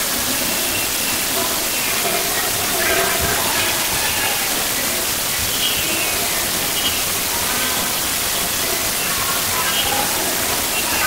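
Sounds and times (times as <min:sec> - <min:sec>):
children's voices chattering: 0:00.0 - 0:11.0
steady hiss: 0:00.0 - 0:11.0.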